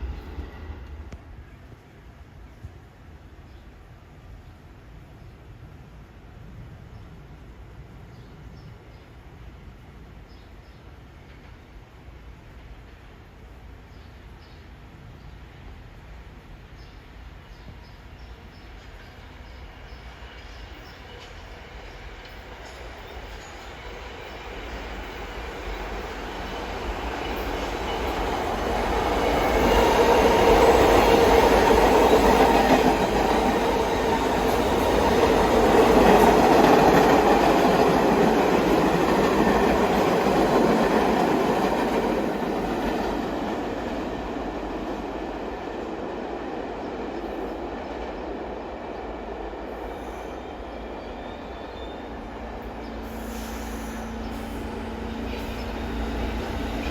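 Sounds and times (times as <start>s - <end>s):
subway train wheels on rail: 0.0s - 56.9s.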